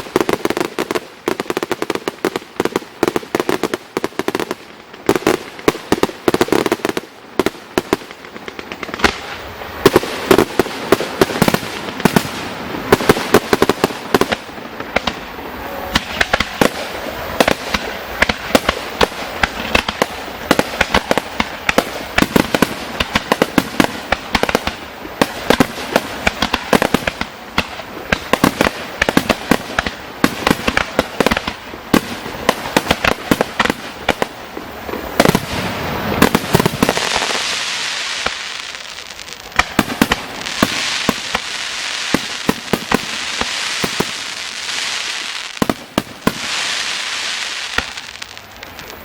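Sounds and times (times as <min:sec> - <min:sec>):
firework crackling: 0:00.0 - 0:49.0.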